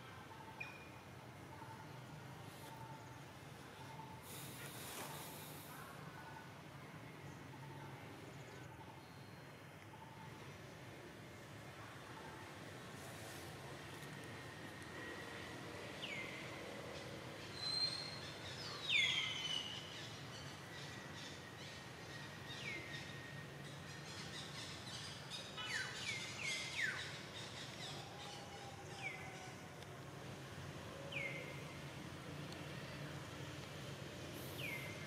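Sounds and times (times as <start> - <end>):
outdoor background hum: 0.0 - 35.0.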